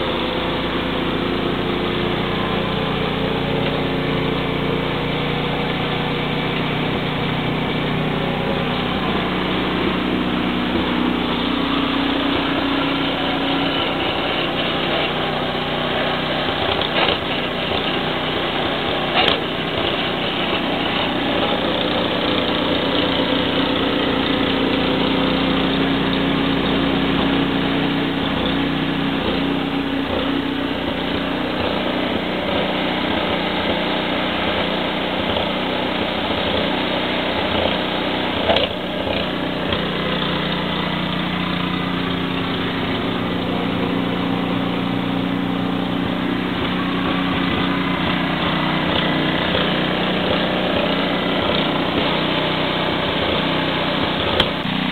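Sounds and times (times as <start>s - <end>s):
snowblower engine running: 0.0s - 54.9s.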